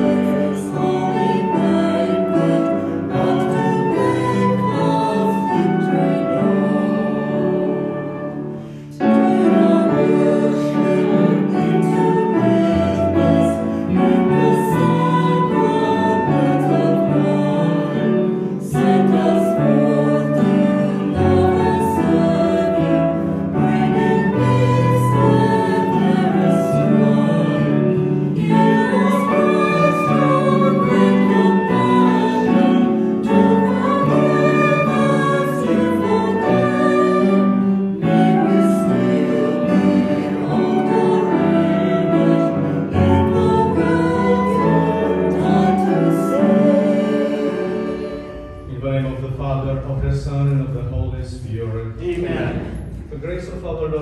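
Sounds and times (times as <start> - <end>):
choir singing a hymn: 0.0 - 49.2
instrumental accompaniment: 0.0 - 54.0.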